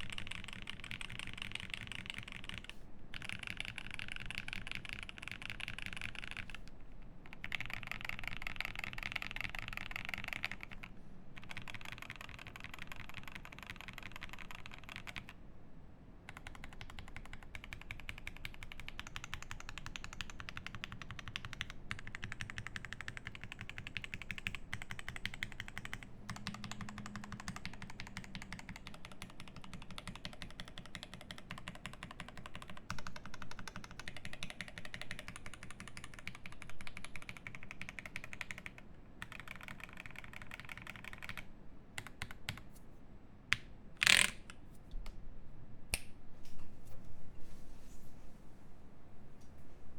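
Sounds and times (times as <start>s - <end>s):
mechanical keyboard typing: 0.0s - 15.4s, 16.3s - 42.7s, 44.0s - 44.5s.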